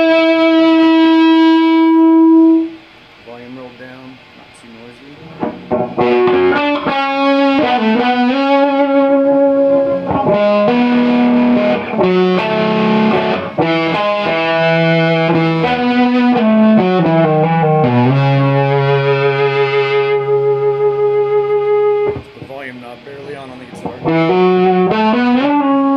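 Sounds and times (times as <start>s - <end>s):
distorted electric guitar: 0.0s - 25.9s.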